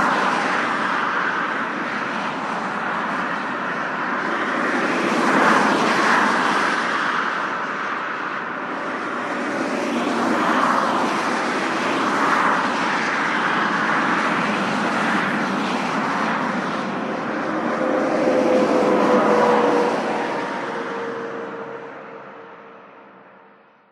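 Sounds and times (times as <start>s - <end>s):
highway traffic rushing past: 0.0s - 23.9s.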